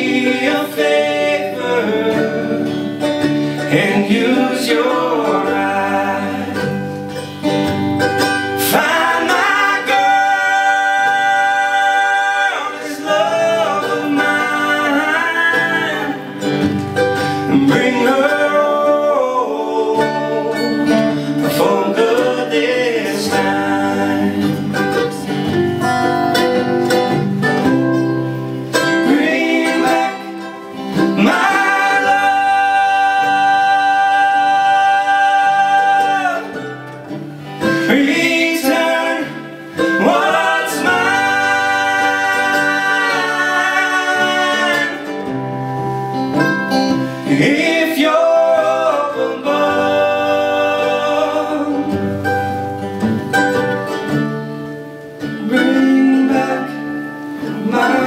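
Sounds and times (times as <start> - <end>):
male voices singing in harmony: 0.0 - 7.8, 8.5 - 25.4, 28.7 - 52.5, 55.4 - 58.0
acoustic guitar: 0.0 - 58.0.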